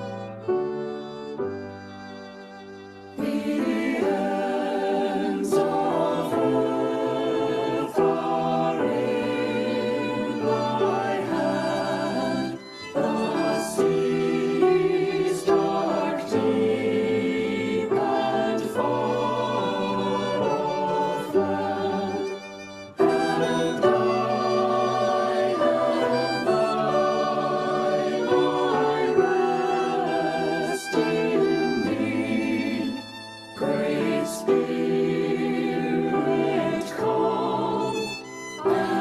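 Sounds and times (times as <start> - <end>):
choir singing: 0.0 - 1.3, 3.0 - 39.0.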